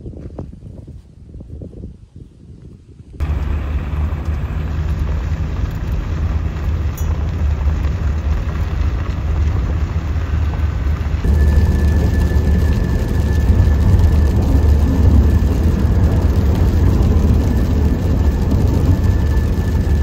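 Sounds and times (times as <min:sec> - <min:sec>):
vehicle driving on road: 0:03.1 - 0:20.0.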